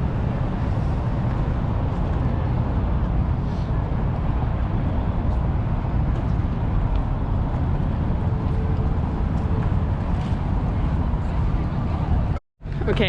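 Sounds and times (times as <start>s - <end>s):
low city rumble: 0.0s - 13.0s.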